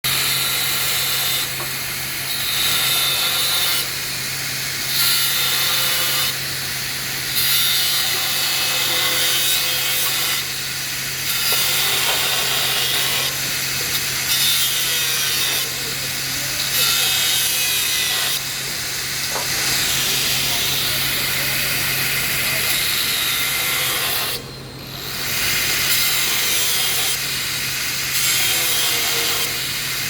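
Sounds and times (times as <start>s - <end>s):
hacksaw cutting metal pipe: 0.0s - 30.0s.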